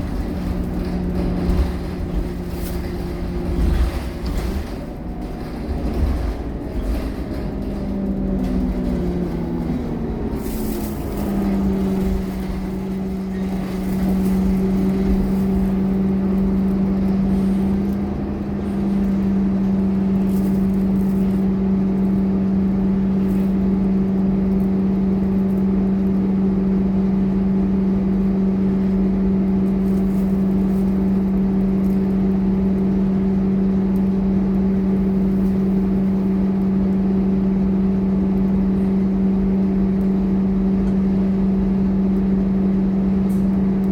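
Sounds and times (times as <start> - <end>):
bus diesel engine droning: 0.0 - 43.9.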